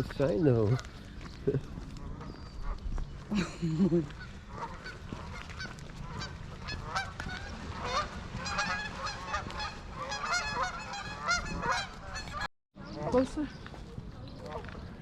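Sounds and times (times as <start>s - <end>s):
waterfowl calling: 0.3s - 13.4s.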